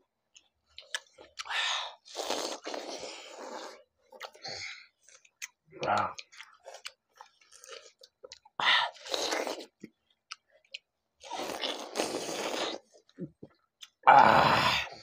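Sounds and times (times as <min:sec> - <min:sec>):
people chewing watermelon: 0:00.3 - 0:15.0.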